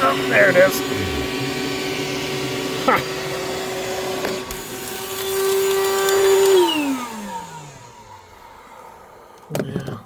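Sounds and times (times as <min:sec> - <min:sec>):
shop vac motor whining: 0:00.0 - 0:10.0.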